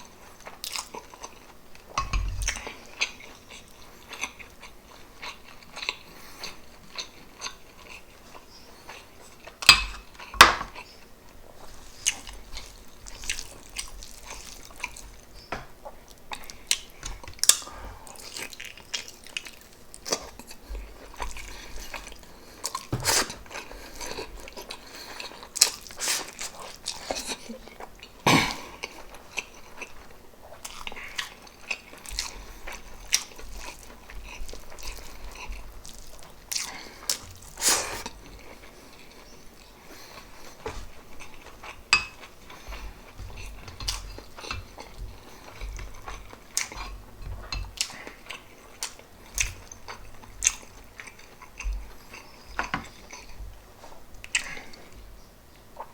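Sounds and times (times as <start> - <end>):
wet chewing and mouth smacks: 0.2 - 55.0, 55.6 - 55.9.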